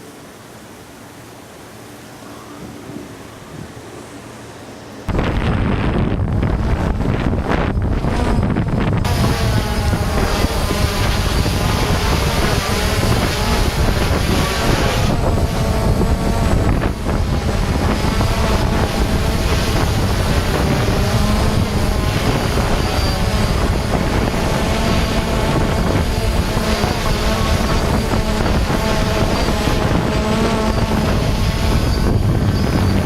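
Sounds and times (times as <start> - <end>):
drone propellers buzzing: 2.0 - 33.0
wind buffeting on microphone: 5.1 - 33.0.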